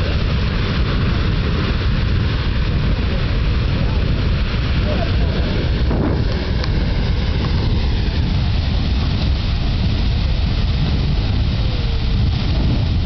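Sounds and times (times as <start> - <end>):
geyser jetting water and steam: 0.0 - 13.0.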